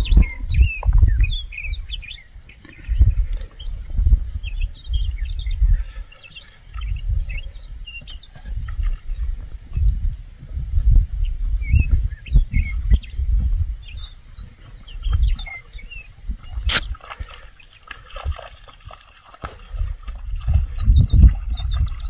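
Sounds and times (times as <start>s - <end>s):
small birds chirping: 0.0s - 22.0s
wind rumble on microphone: 0.0s - 22.0s.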